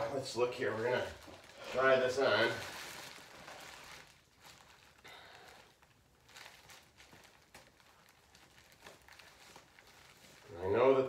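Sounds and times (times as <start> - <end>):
fabric bag rustling: 0.0 - 11.0.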